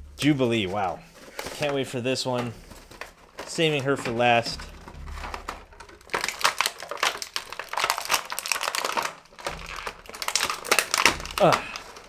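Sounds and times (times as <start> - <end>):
plastic packaging crinkling: 0.2 - 12.0.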